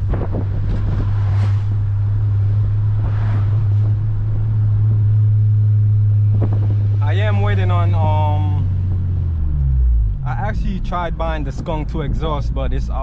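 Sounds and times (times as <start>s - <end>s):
car engine droning at cruise: 0.0s - 13.0s.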